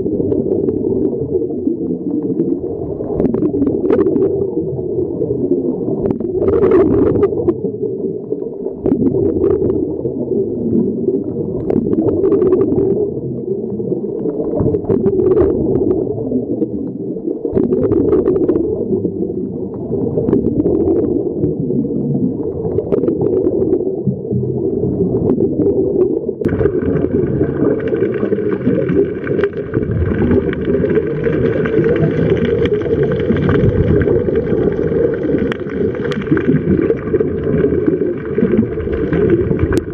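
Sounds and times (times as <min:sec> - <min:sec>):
bursts of bubbles: 0:00.0 - 0:39.9
muffled underwater rumbling wash: 0:00.0 - 0:39.9.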